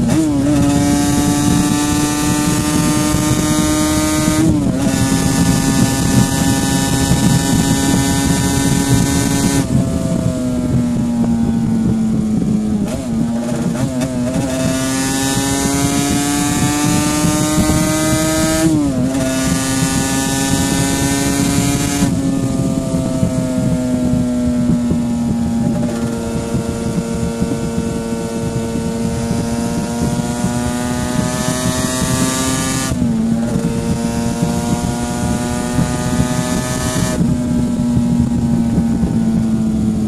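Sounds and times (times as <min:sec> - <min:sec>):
motorcycle engine at speed: 0:00.0 - 0:40.0
wind rush: 0:00.0 - 0:40.0.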